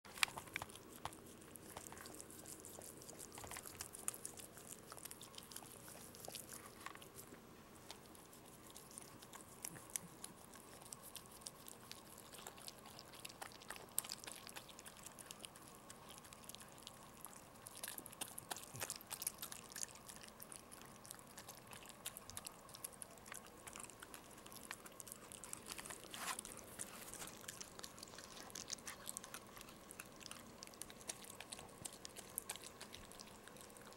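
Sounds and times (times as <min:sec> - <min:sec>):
faint steady hum: 0:00.1 - 0:33.9.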